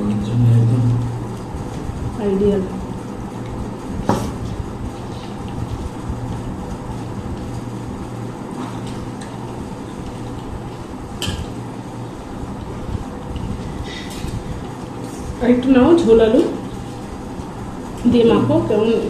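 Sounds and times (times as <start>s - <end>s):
low machine hum: 0.0s - 19.0s
people eating by hand: 0.0s - 19.0s.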